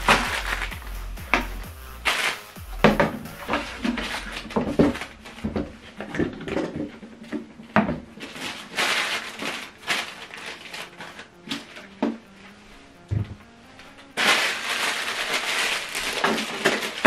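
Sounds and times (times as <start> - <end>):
plastic bags crinkling: 0.0 - 12.4, 13.2 - 17.0.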